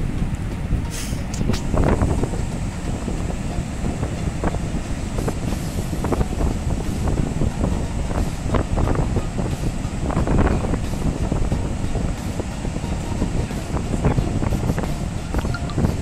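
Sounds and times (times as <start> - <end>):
waves rumbling: 0.0 - 16.0
wind on microphone: 0.0 - 16.0.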